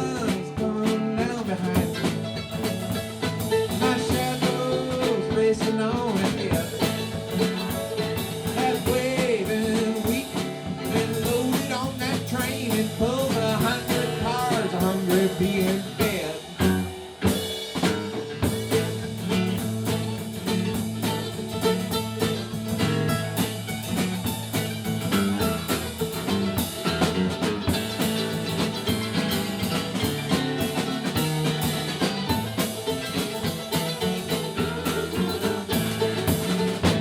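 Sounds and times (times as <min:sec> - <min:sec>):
bass guitar: 0:00.0 - 0:37.0
drum kit beat: 0:00.0 - 0:37.0.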